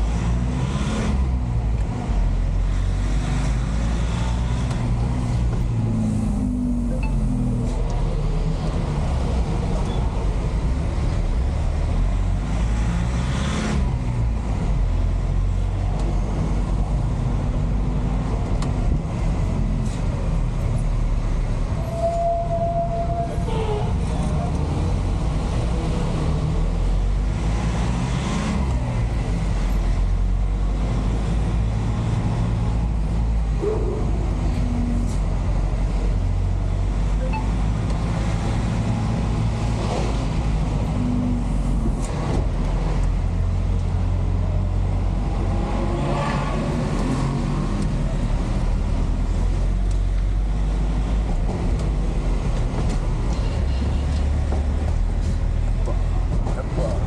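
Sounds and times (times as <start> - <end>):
passing street traffic: 0.0 - 57.0
truck engine droning: 0.0 - 57.0.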